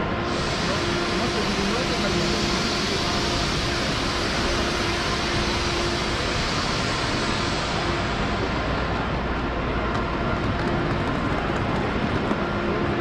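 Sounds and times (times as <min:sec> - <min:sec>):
busy station crowd hum: 0:00.0 - 0:13.0.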